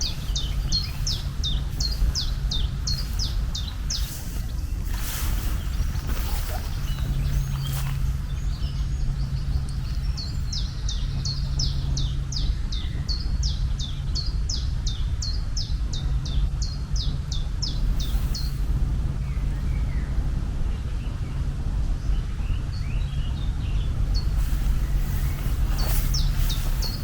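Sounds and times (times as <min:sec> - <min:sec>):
bird chirping: 0:00.0 - 0:20.2, 0:22.0 - 0:27.0
low rumble: 0:00.0 - 0:27.0.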